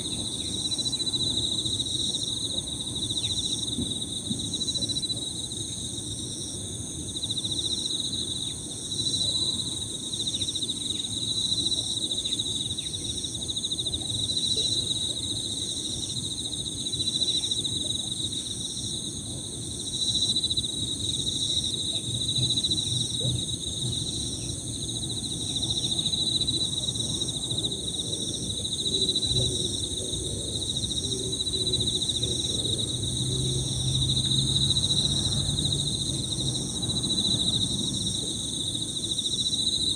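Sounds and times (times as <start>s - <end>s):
crickets trilling: 0.0s - 39.9s
pulsed insect call: 0.0s - 39.9s.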